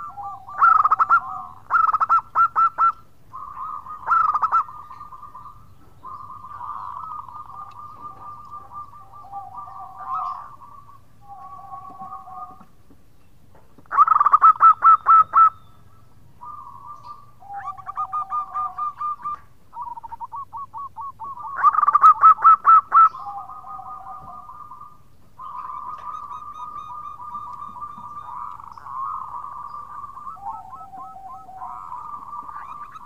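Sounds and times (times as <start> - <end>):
dove cooing: 0.0 - 12.8, 13.9 - 33.0.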